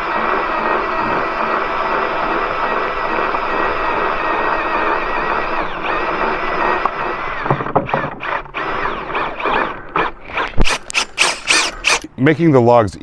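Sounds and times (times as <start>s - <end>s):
power drill motor whining: 0.0s - 12.1s.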